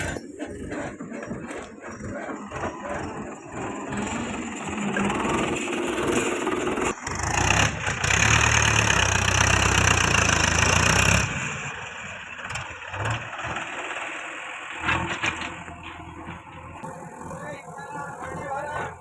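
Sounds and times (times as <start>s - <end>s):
heavy diesel engine droning: 0.0s - 19.0s.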